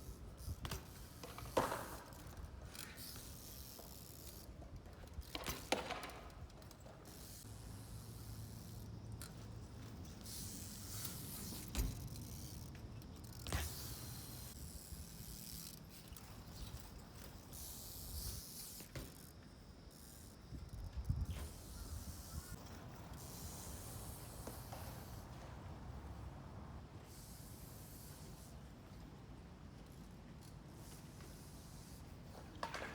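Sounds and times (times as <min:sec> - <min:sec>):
bike tyres hissing: 0:00.0 - 0:29.0, 0:30.6 - 0:32.9.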